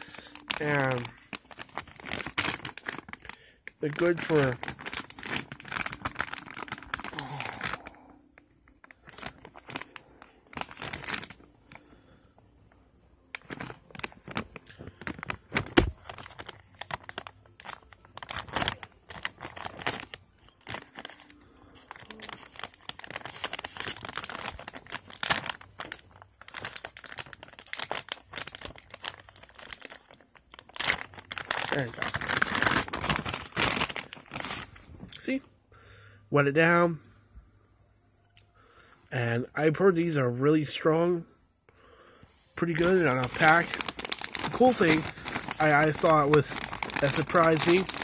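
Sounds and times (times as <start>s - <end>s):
plastic packaging crinkling and tearing: 0.0s - 12.3s, 13.2s - 35.4s, 42.6s - 48.0s.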